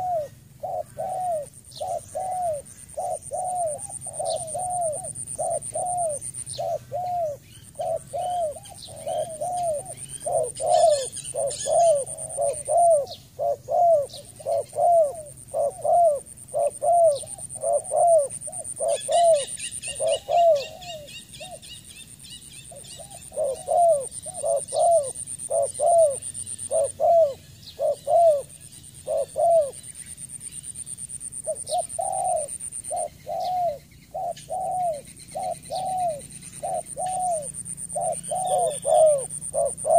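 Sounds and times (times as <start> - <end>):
dove cooing: 0.0 - 21.8, 22.7 - 39.9
small birds chirping: 0.0 - 39.9.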